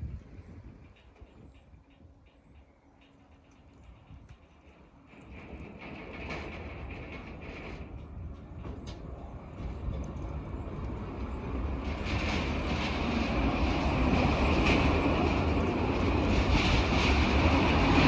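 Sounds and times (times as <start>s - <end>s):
funicular car rumbling on track: 0.0s - 18.0s.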